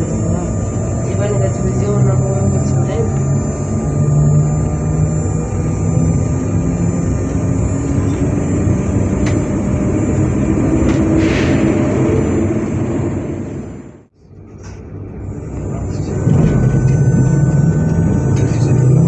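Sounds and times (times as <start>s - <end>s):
train equipment humming and whining: 0.0s - 19.0s.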